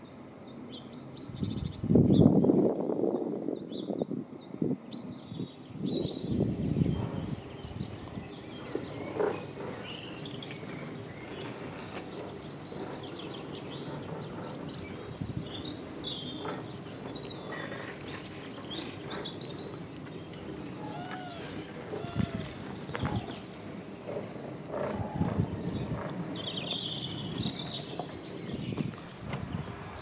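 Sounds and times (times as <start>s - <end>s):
wild birds chirping and singing: 0.0s - 30.0s.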